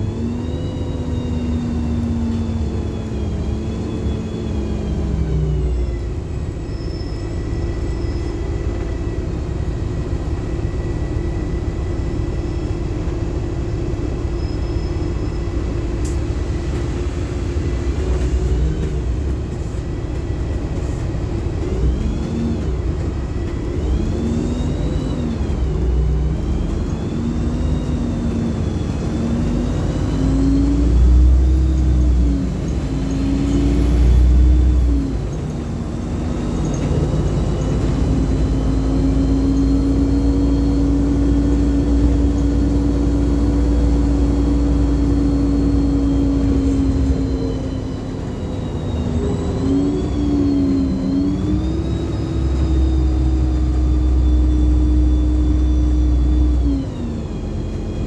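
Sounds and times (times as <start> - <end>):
bus engine drone with whine: 0.0 - 58.0.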